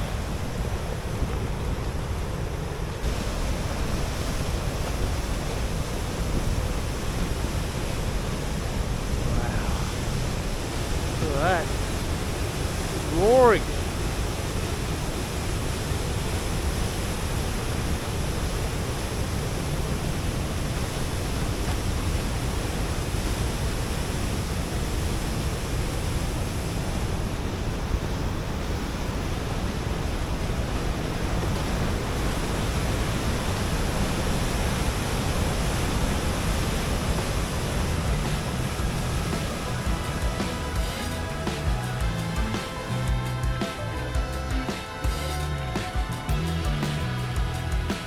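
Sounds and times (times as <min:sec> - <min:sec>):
waterfall roaring: 0:00.0 - 0:46.2.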